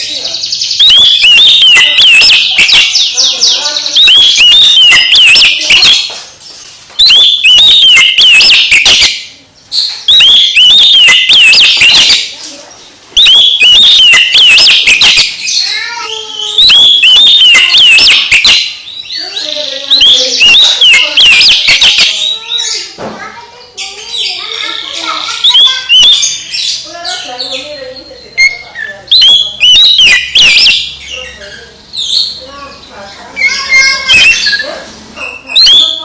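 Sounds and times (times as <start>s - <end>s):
bird singing whistled notes: 0.5s - 6.2s, 7.0s - 12.3s, 13.2s - 22.9s, 24.1s - 32.4s, 33.4s - 36.0s.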